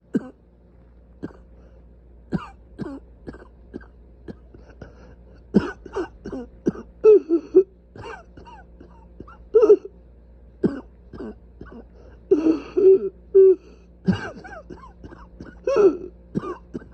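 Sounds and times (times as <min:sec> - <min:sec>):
person coughing: 0:00.1 - 0:00.4, 0:01.2 - 0:01.5, 0:02.3 - 0:09.9, 0:10.6 - 0:16.9.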